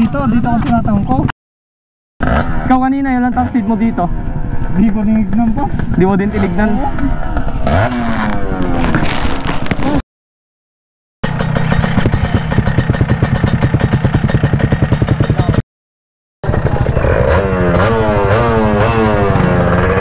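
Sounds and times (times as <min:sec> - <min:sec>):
motorcycle engine idling and revving: 0:00.0 - 0:01.3, 0:02.2 - 0:10.0, 0:11.2 - 0:15.6, 0:16.4 - 0:20.0.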